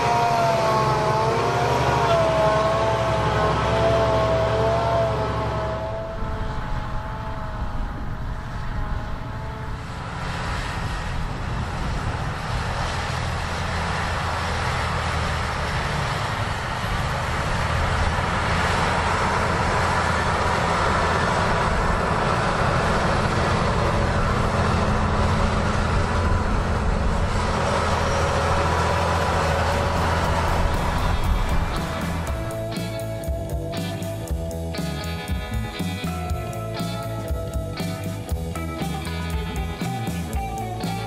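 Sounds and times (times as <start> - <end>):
steady rushing noise: 0.0 - 41.0
tractor diesel engine drone: 0.0 - 41.0
wavering whine: 0.0 - 41.0.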